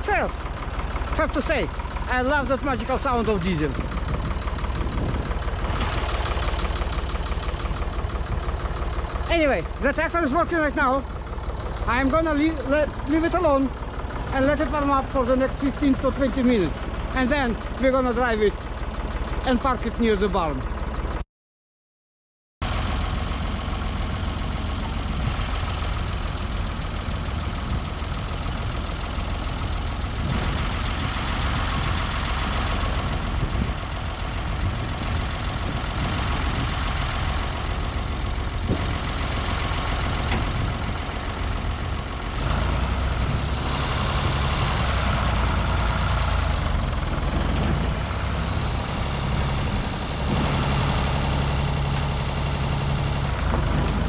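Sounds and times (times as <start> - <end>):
tractor diesel engine idling: 0.0 - 21.2, 22.6 - 54.0.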